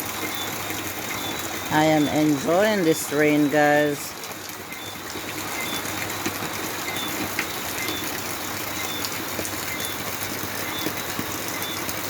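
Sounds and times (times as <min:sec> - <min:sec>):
rain falling with drips: 0:00.0 - 0:12.0.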